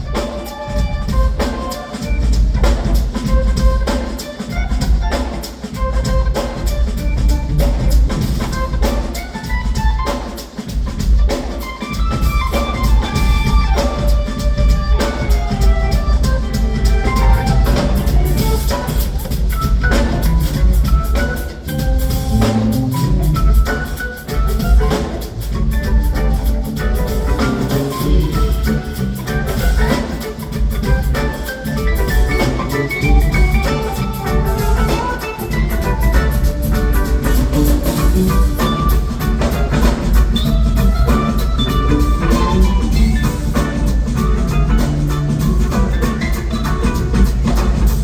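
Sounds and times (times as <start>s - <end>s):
drum kit beat: 0.0s - 48.0s
live band playing: 0.0s - 48.0s.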